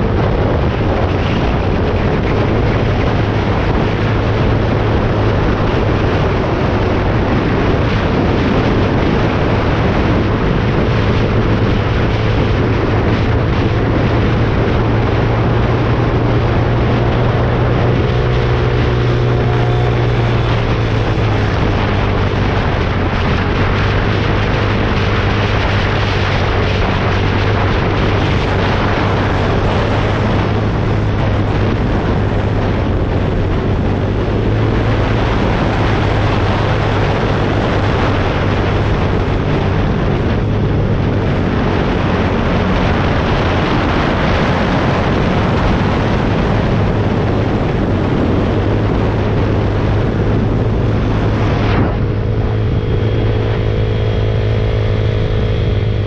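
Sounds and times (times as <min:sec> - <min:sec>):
wind rushing: 0:00.0 - 0:56.0.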